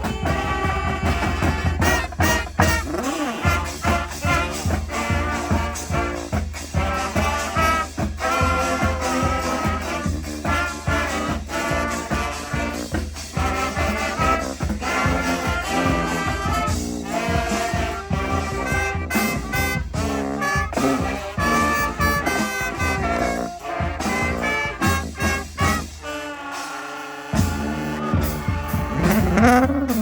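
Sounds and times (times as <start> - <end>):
brass band playing: 0.0 - 30.0.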